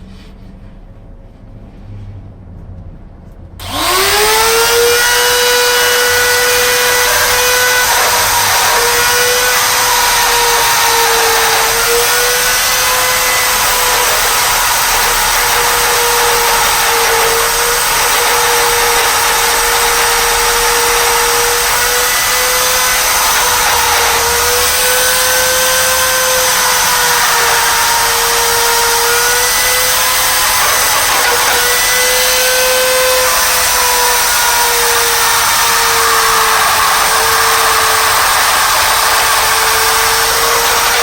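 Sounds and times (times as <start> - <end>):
rotary tool whining while cutting: 3.6 - 41.0.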